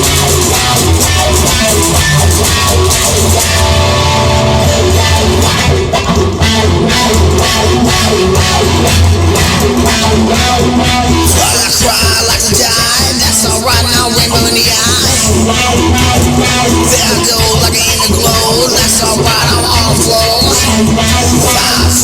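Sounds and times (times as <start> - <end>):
drum kit beat: 0.0 - 22.0
electric guitar: 0.0 - 22.0.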